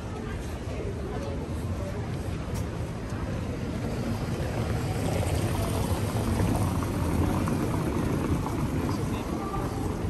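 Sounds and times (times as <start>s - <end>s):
city street rumble: 0.0s - 10.0s.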